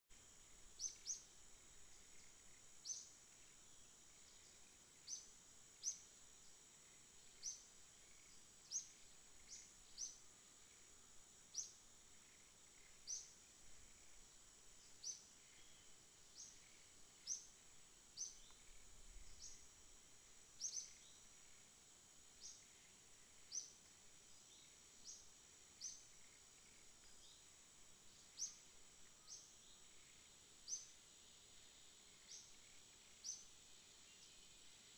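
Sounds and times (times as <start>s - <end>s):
high-pitched insect drone: 0.2s - 34.9s.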